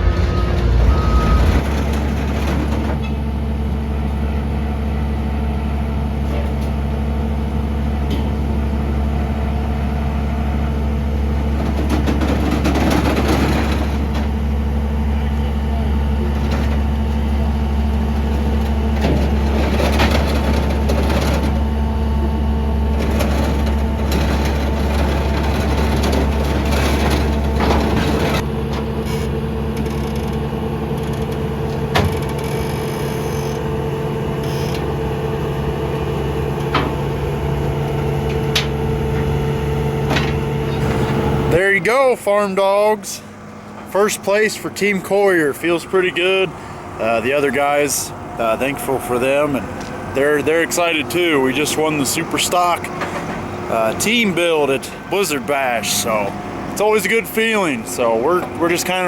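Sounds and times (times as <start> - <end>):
engine idling with low hum: 0.0 - 59.0.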